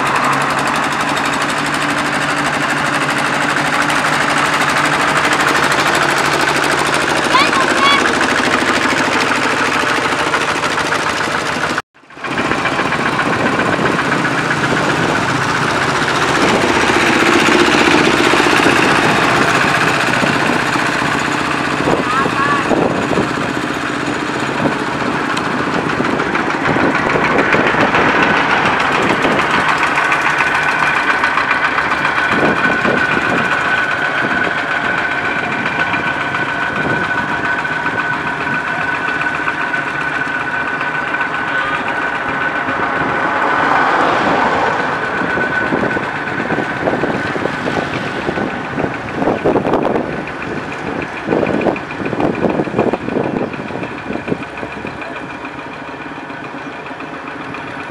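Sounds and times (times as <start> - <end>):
tractor engines running: 0.0 - 57.9.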